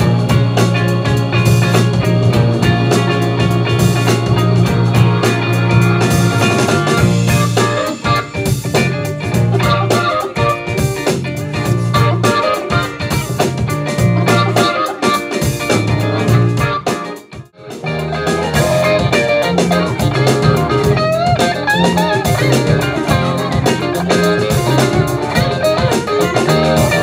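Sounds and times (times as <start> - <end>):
deep bass line: 0.0 - 14.7, 15.6 - 16.8, 17.6 - 27.0
funk band playing: 0.0 - 27.0.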